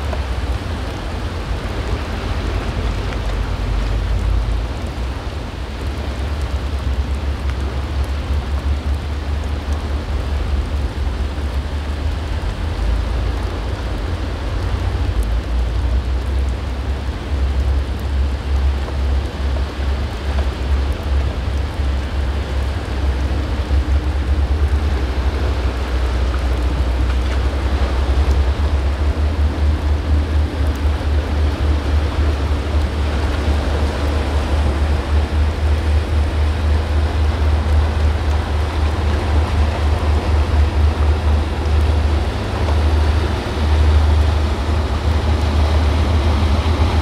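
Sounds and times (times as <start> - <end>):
boat engines hum: 0.0 - 47.0.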